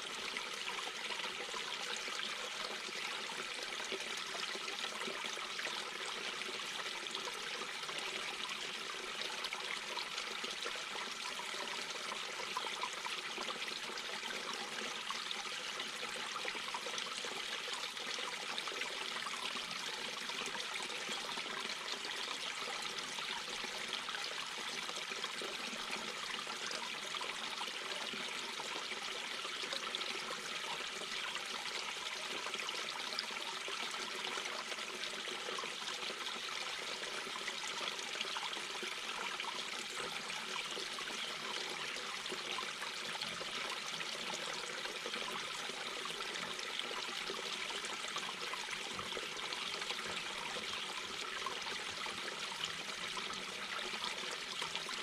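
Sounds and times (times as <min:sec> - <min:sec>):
brook babbling over rocks: 0:00.0 - 0:55.0.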